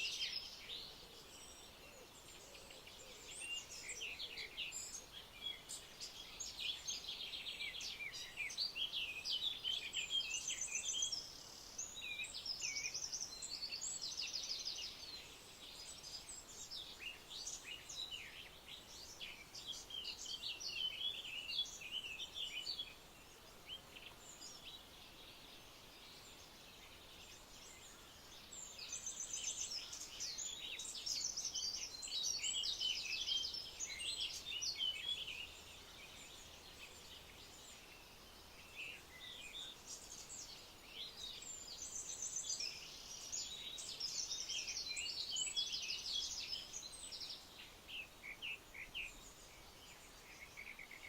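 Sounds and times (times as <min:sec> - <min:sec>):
birds singing and chirping: 0:00.0 - 0:51.0
steady background hiss: 0:00.0 - 0:51.0.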